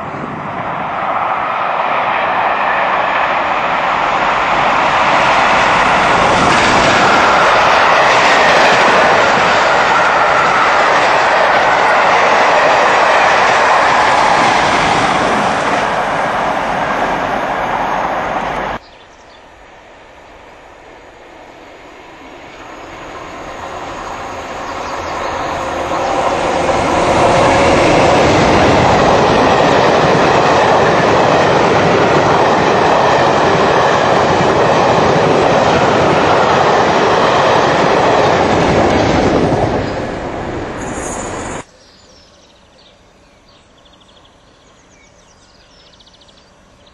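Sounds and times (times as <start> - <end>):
passenger train passing at speed: 0.0 - 46.9.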